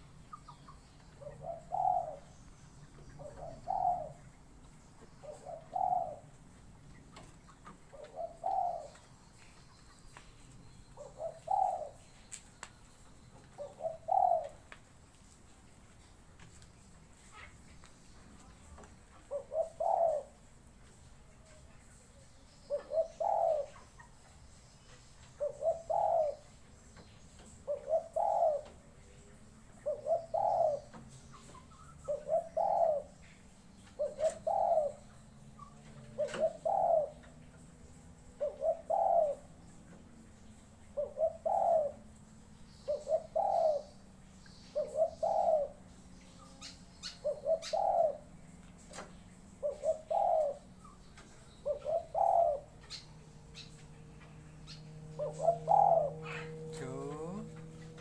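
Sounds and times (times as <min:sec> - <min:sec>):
dove cooing: 0:00.0 - 0:09.2, 0:10.9 - 0:12.1, 0:13.5 - 0:14.7, 0:19.2 - 0:20.6, 0:22.6 - 0:24.3, 0:25.3 - 0:58.0.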